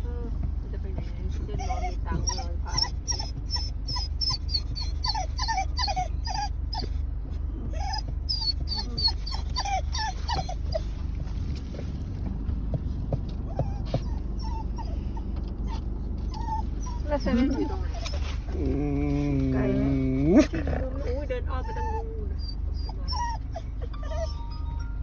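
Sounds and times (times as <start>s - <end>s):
dog whining and whimpering: 1.5s - 7.0s, 7.6s - 11.5s, 13.4s - 25.0s.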